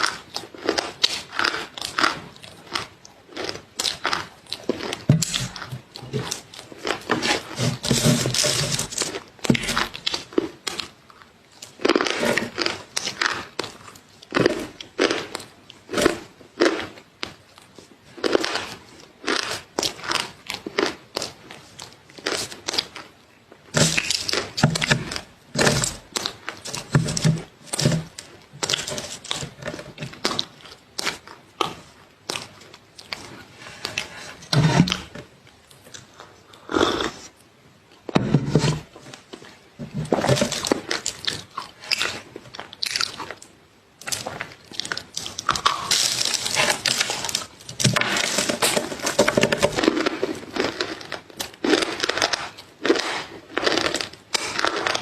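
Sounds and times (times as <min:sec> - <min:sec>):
crunchy food being chewed: 0:00.0 - 0:55.0.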